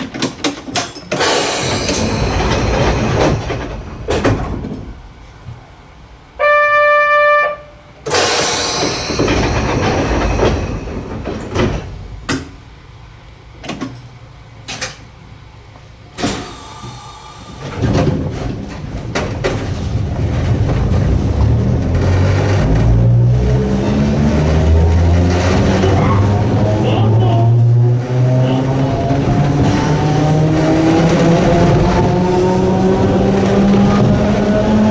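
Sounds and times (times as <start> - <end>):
train knocks and clunks: 0.0 - 34.9.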